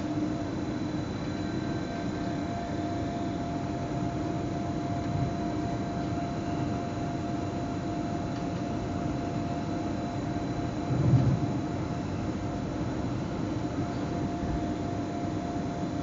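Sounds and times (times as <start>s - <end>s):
train cab low rumble: 0.0s - 16.0s.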